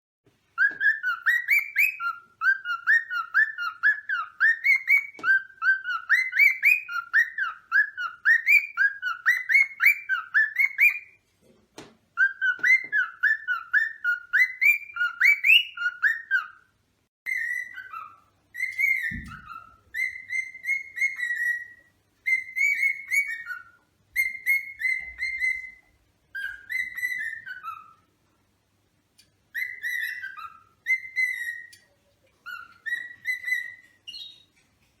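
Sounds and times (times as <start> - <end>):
cockatiel whistling: 0.6 - 11.2, 12.2 - 16.7, 17.3 - 28.1, 29.2 - 34.5.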